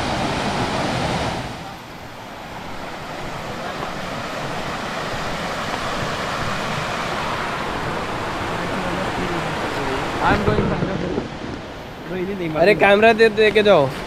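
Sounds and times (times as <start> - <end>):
water stream rushing: 0.0 - 14.0.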